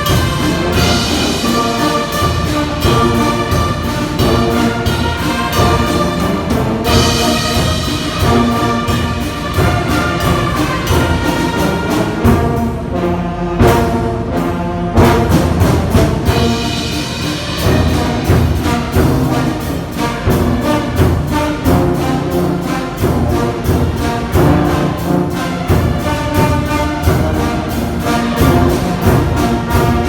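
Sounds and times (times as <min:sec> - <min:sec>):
brass band playing: 0:00.0 - 0:30.0
drums keeping a steady beat: 0:00.0 - 0:30.0.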